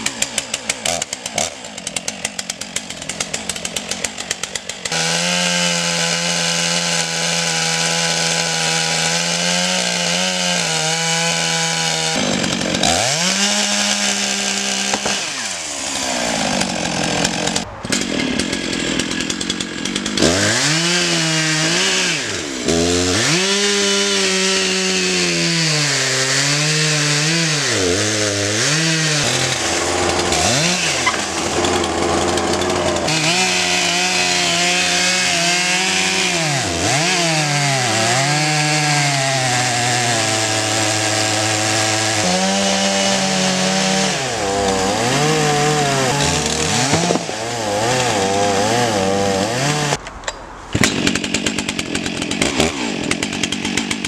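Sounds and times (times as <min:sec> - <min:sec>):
chainsaw cutting into wood: 0:00.0 - 0:50.1, 0:50.7 - 0:54.0.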